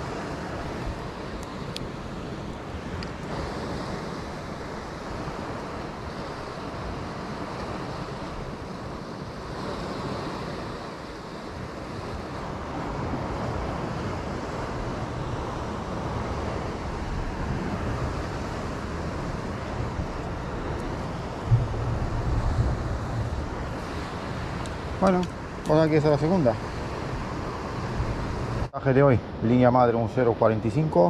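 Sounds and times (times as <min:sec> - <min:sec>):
sea surf washing on shore: 0:00.0 - 0:31.0
wind buffeting microphone: 0:00.0 - 0:31.0.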